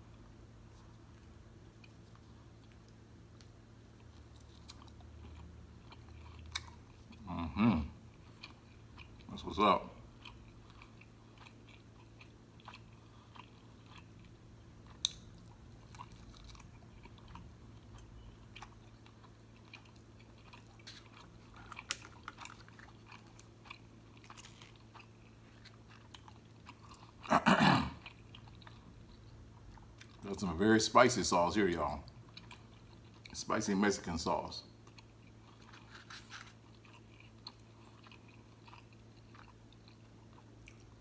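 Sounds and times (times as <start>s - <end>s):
chewing crunchy food: 0.6s - 41.0s.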